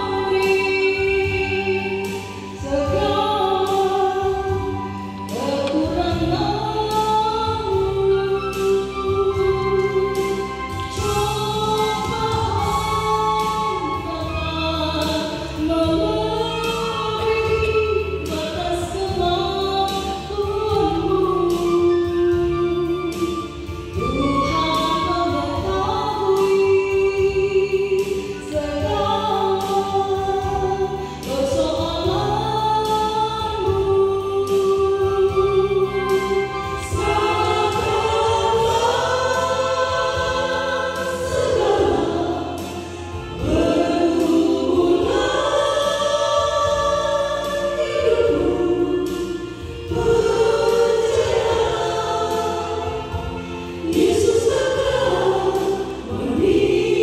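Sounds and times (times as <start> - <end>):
women singing in harmony: 0.0 - 57.0.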